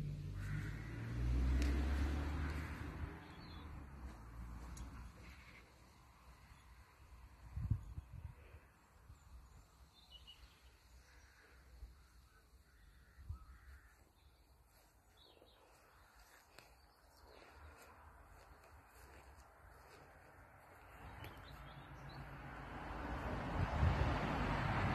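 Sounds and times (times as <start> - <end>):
distant birds calling: 0.2 - 6.9, 8.4 - 22.3.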